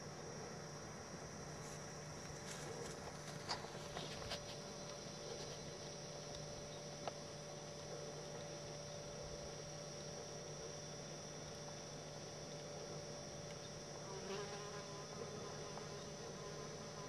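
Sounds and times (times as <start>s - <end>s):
constant hiss: 0.0s - 17.0s
faint steady hum: 0.0s - 17.0s.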